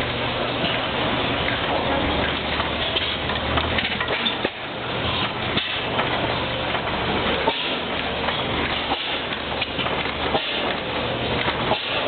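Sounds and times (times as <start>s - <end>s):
stationary gas engine running: 0.0s - 12.0s.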